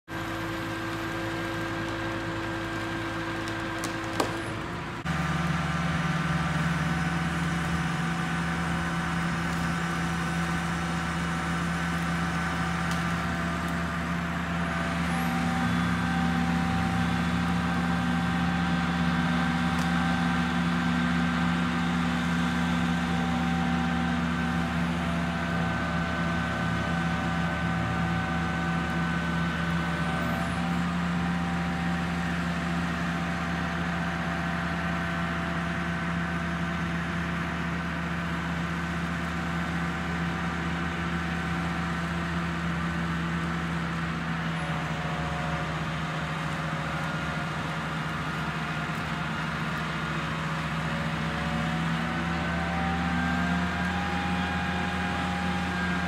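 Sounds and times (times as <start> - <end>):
crane engine droning: 0.1 - 56.0.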